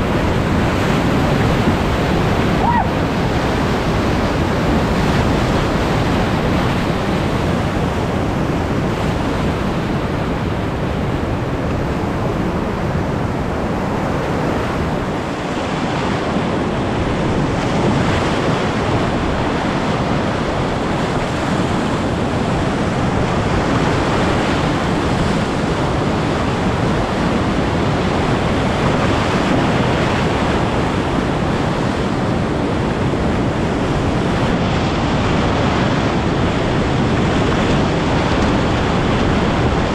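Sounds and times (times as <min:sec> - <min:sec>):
rushing river rapids: 0:00.0 - 0:39.9.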